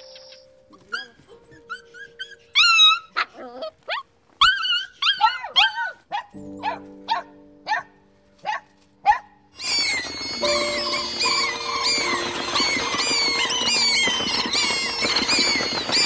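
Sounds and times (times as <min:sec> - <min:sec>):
soft background music: 0:00.0 - 0:16.0
puppy yipping: 0:00.7 - 0:16.0.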